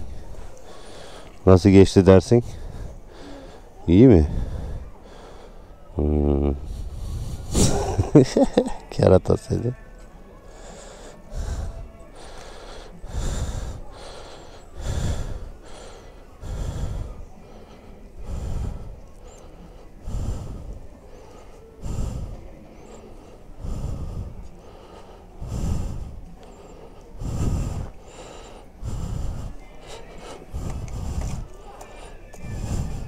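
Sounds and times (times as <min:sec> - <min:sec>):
person breathing heavily: 0:00.0 - 0:08.9, 0:10.3 - 0:33.0.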